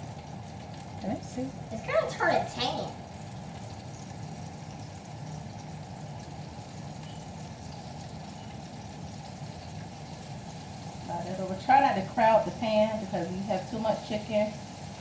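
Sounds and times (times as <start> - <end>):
chicken frying in oil: 0.0 - 15.0.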